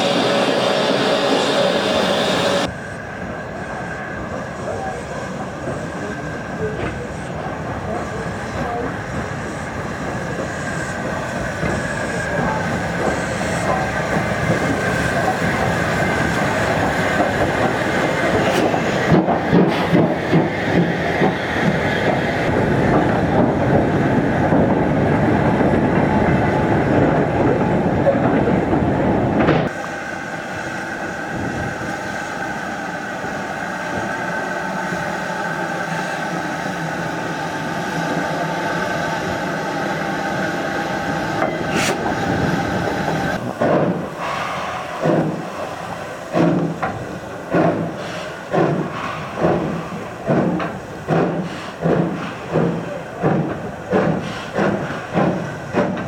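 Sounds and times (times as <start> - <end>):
steam locomotive exhaust chuffs: 0.0 - 2.9, 4.4 - 56.0
steam train running: 0.0 - 56.0.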